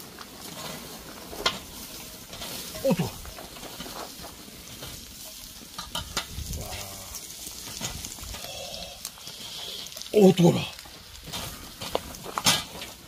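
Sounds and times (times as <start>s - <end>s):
seafood sizzling in frying pan: 0.0s - 13.0s.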